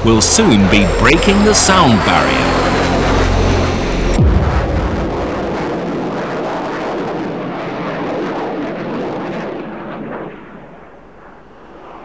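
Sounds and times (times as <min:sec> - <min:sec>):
fighter jet passing: 0:00.0 - 0:12.0.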